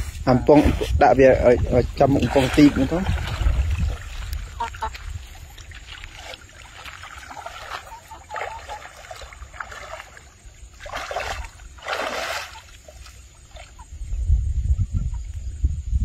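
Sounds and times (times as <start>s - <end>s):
water sloshing around wading person: 0.0s - 14.0s.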